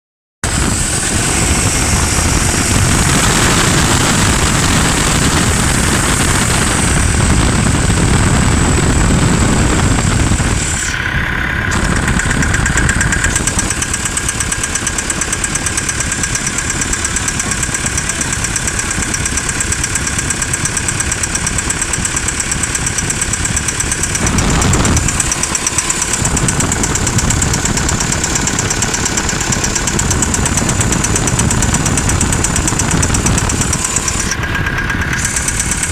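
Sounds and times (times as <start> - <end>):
diesel engine running: 0.4 - 35.9
regular engine knock: 0.4 - 35.9.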